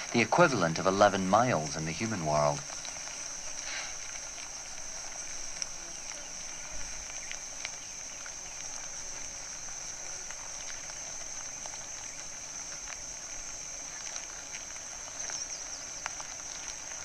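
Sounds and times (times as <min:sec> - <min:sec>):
faint ticks and crackles: 0:00.0 - 0:17.0.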